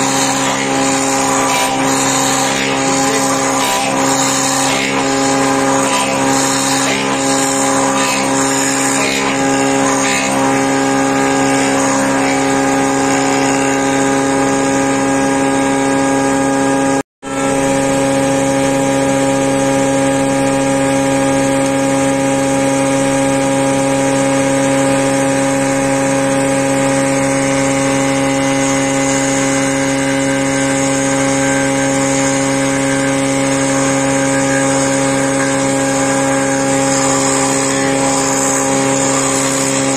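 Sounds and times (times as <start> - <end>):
boring machine motor hum: 0.0 - 39.9
drill bit rasping wood: 0.0 - 39.9.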